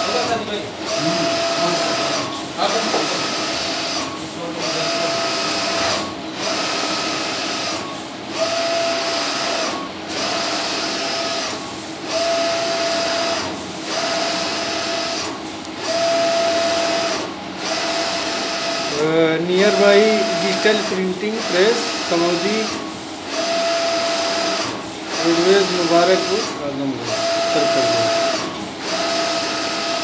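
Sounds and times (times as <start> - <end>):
printer carriage whirring: 0.0 - 30.0.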